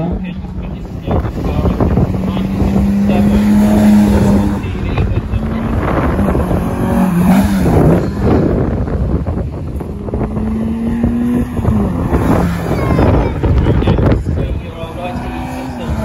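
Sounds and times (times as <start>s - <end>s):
race cars accelerating past: 0.0s - 16.0s.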